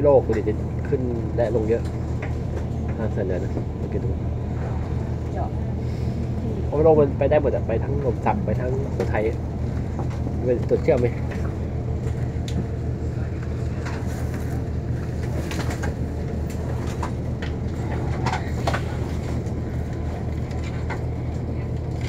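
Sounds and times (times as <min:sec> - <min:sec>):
train low drone: 0:00.0 - 0:22.0.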